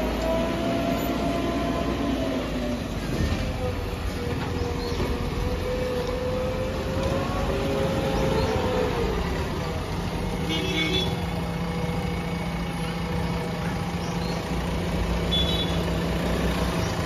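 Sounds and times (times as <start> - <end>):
diesel engine running: 0.0 - 17.0
engine whine: 0.0 - 17.0.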